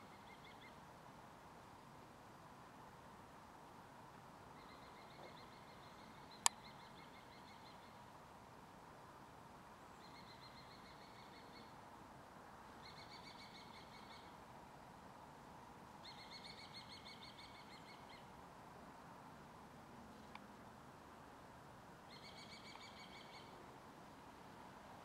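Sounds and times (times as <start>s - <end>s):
background hiss: 0.0s - 25.0s.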